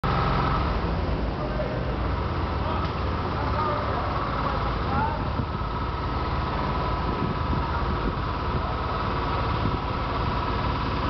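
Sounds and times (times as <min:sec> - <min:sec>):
low street rumble: 0:00.0 - 0:11.0
steady mechanical hum: 0:00.0 - 0:11.0.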